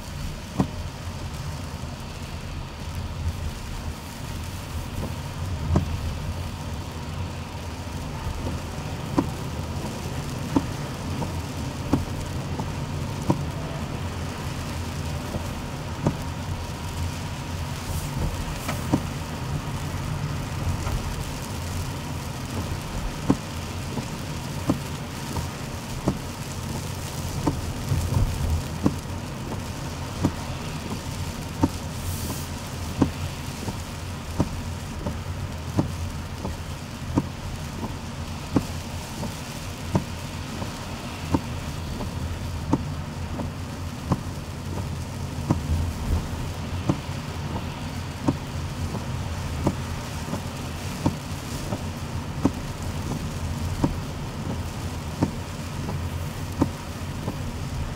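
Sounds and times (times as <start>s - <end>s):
car driving on wet road: 0.0s - 57.9s
rain on a car: 0.0s - 57.9s.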